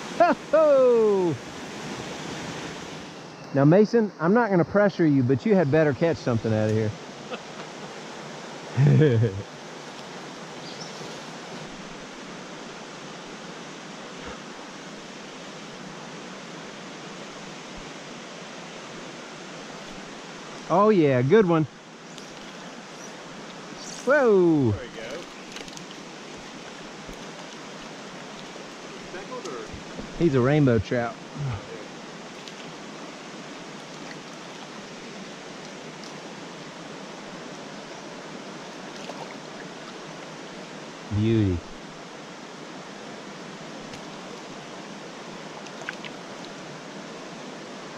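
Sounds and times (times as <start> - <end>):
creek water rushing over rocks: 0.0 - 3.4, 4.2 - 47.9.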